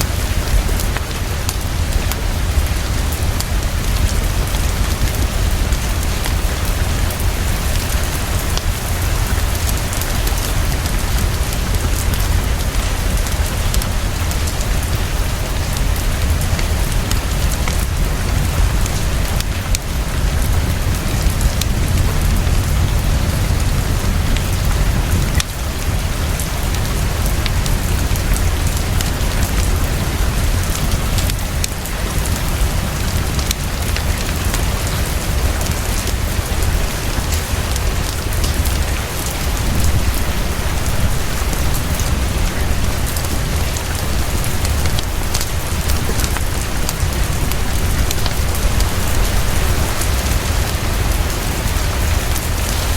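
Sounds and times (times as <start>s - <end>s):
heavy rainfall: 0.0s - 52.9s.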